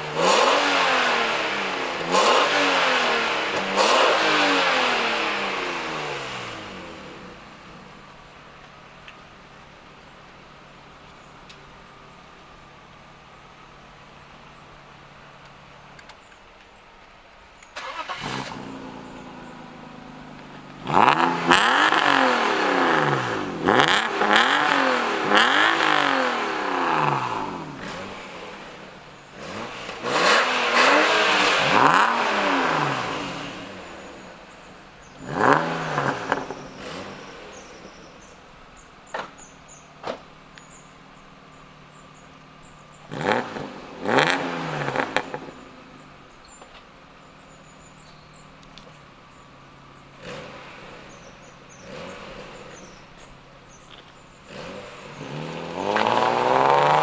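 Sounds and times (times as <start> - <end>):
car engine revving: 0.0 - 11.0, 17.8 - 57.0.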